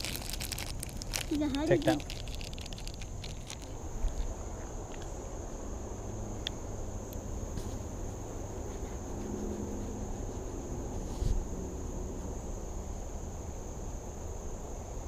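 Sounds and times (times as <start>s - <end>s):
insects trilling: 0.0s - 15.0s
low background rumble: 0.0s - 15.0s.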